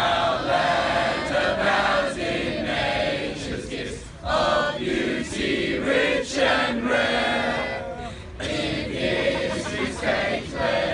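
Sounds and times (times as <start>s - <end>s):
teenagers singing in unison: 0.0s - 10.9s.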